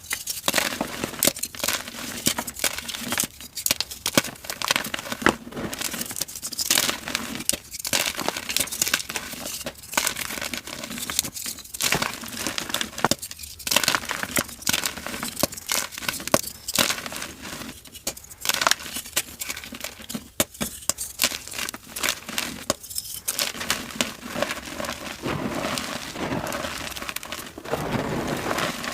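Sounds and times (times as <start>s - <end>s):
chalk being crushed: 0.0s - 28.9s.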